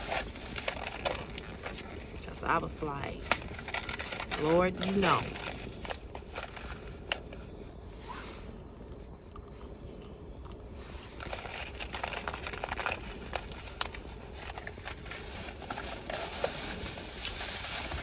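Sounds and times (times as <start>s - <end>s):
low steady hum: 0.0s - 18.0s
rustling crinkling handling noise: 0.0s - 18.0s.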